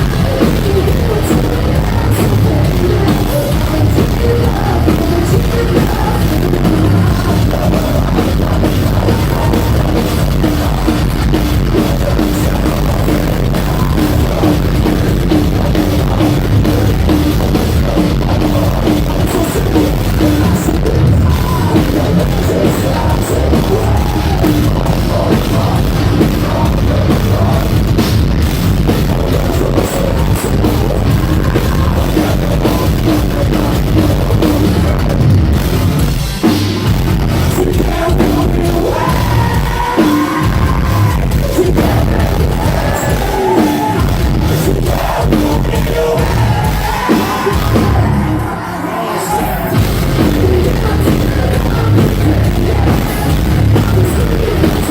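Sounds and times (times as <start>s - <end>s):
person singing: 0.0s - 28.0s, 28.9s - 35.4s, 37.4s - 54.9s
metal band playing: 0.0s - 54.9s.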